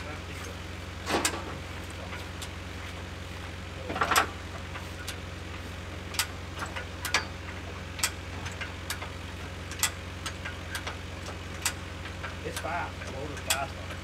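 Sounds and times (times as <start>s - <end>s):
sharp clicks and knocks: 0.0s - 2.6s, 3.8s - 14.0s
tractor engine idling: 0.0s - 14.0s.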